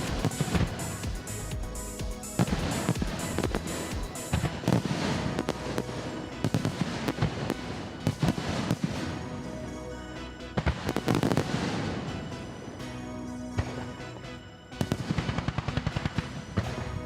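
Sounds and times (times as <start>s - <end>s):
fireworks bangs and crackles: 0.0s - 9.8s, 10.6s - 17.0s
music playing: 0.0s - 17.0s.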